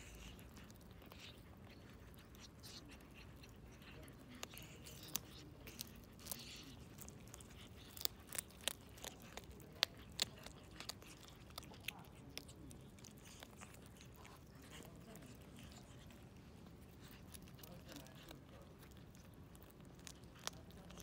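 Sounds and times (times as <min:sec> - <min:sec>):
kitten crunching food: 0:00.0 - 0:21.0.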